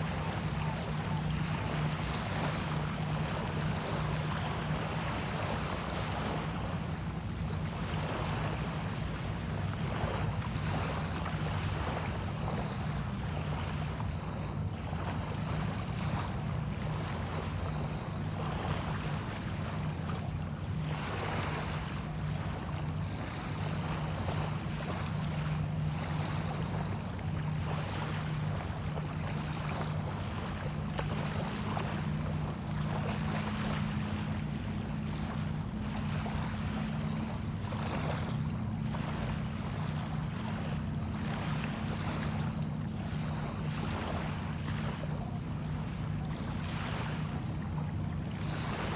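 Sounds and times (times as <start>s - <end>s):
low boat engine hum: 0.0s - 48.9s
small waves washing in: 0.0s - 48.9s.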